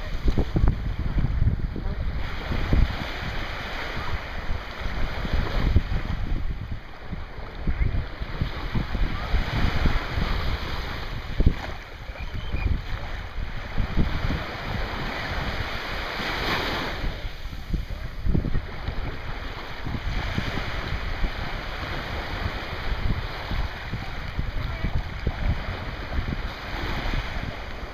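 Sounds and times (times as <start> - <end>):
waves lapping on sandy shore: 0.0 - 27.9
wind buffeting microphone: 0.0 - 27.9.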